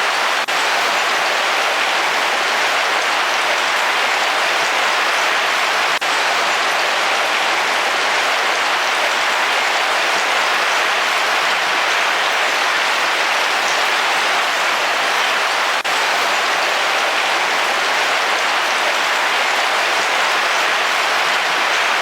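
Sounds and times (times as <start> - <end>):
heavy rain on a car roof: 0.0 - 22.0.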